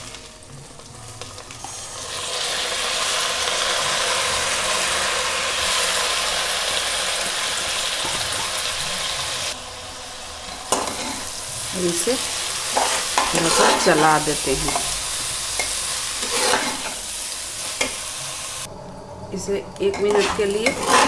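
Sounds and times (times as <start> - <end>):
rice sizzling in hot oil: 0.0 - 18.7, 20.0 - 21.0.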